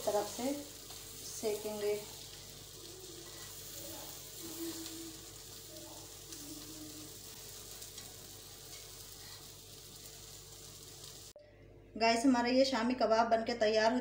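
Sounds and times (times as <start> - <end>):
kebabs sizzling in oil: 0.0 - 11.4.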